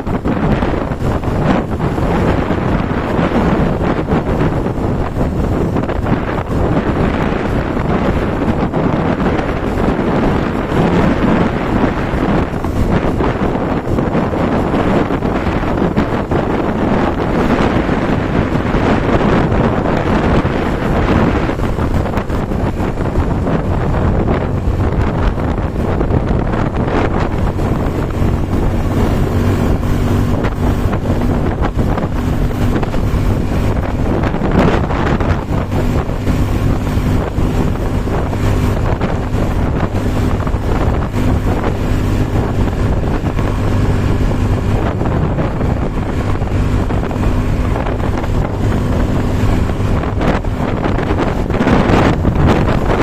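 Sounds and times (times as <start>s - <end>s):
engine humming: 0.0s - 53.0s
wind buffeting microphone: 0.0s - 53.0s.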